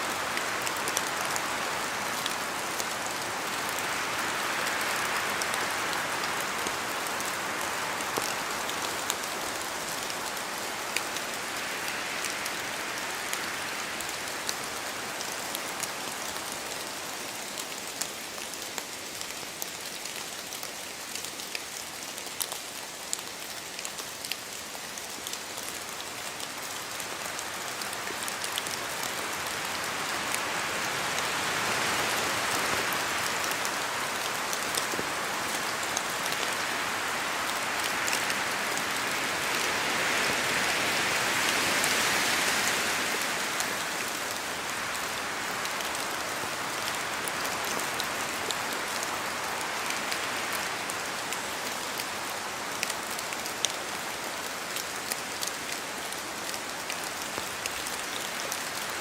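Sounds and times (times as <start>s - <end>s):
raindrops tapping on leaves: 0.0s - 59.0s
steady rain in forest: 0.0s - 59.0s.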